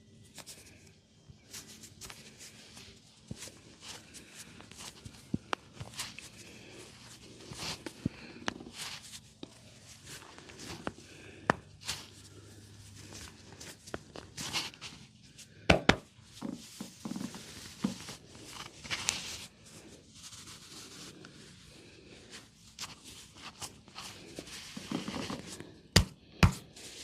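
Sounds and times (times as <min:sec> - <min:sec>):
hands rubbing skin and hair: 0:01.5 - 0:27.0.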